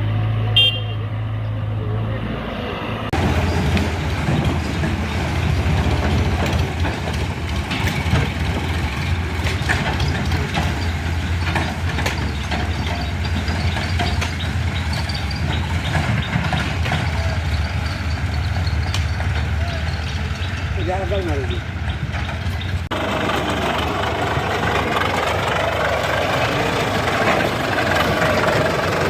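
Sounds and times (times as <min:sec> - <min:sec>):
tractor engine throbbing: 0:00.0 - 0:29.0.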